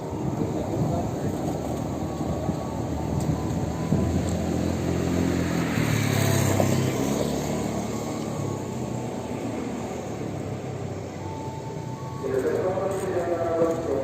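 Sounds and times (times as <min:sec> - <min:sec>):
deep engine tone: 0:00.0 - 0:14.0
road vehicle noise: 0:00.0 - 0:14.0.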